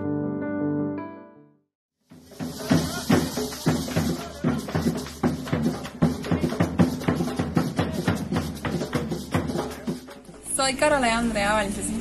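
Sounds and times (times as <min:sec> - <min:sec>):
drum-led percussion music: 0:02.0 - 0:11.9.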